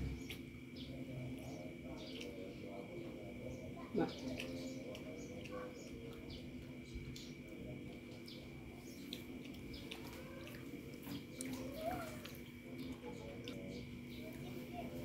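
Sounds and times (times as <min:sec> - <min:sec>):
faint steady hum: 0:00.0 - 0:15.0
chewing and lip-smacking: 0:01.2 - 0:03.4, 0:04.1 - 0:15.0.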